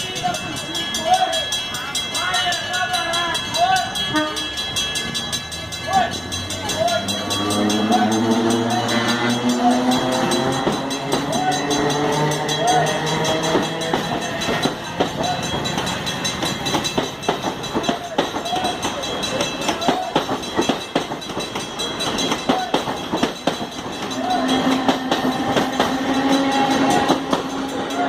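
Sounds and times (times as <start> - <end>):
wheels clicking over rail joints: 0.0 - 28.0
electric train growling: 0.1 - 28.0.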